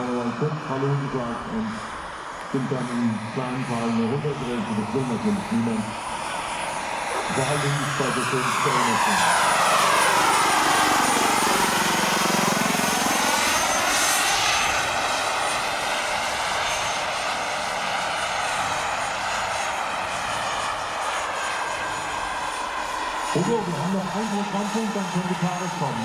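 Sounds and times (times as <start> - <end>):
helicopter rotor noise: 0.0 - 26.0
model helicopters turbine whine: 0.0 - 26.0.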